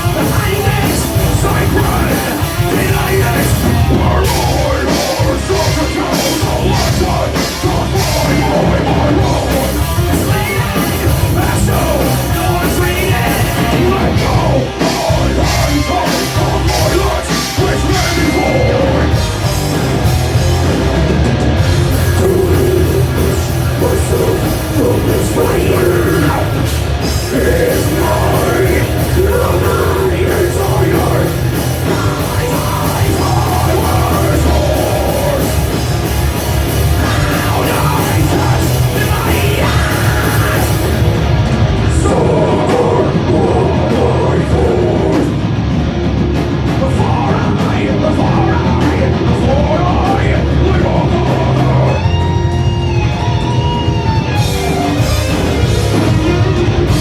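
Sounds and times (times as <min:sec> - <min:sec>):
person singing: 0:00.0 - 0:19.5, 0:21.9 - 0:35.9, 0:36.8 - 0:41.2, 0:41.9 - 0:45.4, 0:46.7 - 0:57.0
rock band playing: 0:00.0 - 0:57.0.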